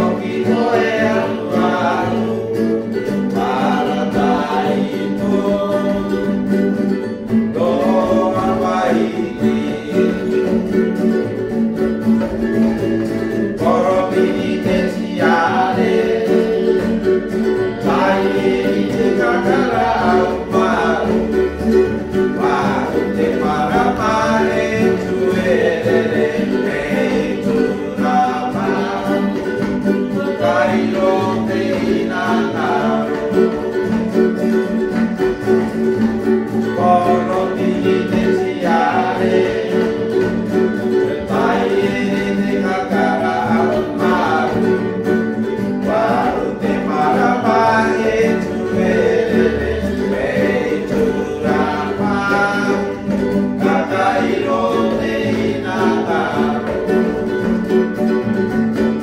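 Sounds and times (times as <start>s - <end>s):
person singing: 0.0s - 11.2s, 13.1s - 34.8s, 36.2s - 57.8s
plucked guitar or banjo: 0.0s - 59.0s.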